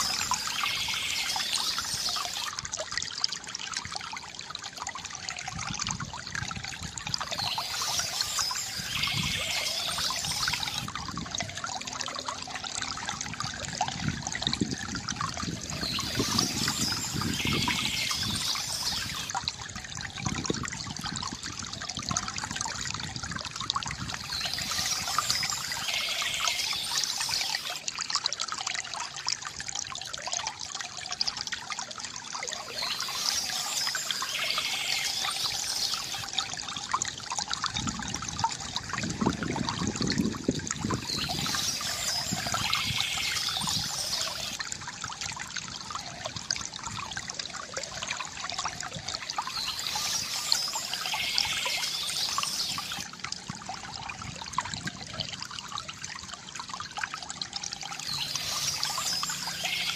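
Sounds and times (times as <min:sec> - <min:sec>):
fountain water trickling and splashing: 0:00.0 - 0:59.9
water gurgling: 0:00.0 - 0:59.9.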